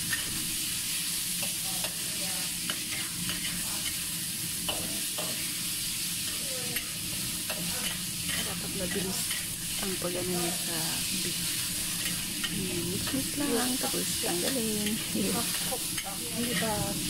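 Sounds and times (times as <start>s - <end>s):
beef sizzling in a wok: 0.0s - 17.0s.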